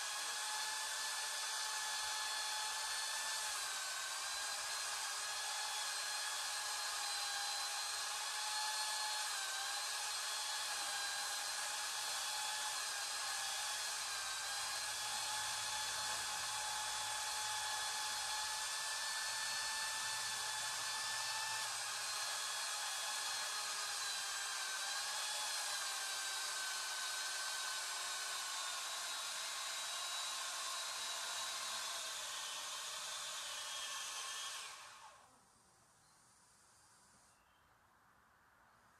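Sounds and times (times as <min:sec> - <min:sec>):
chainsaw engine at high revs: 0:00.0 - 0:35.3.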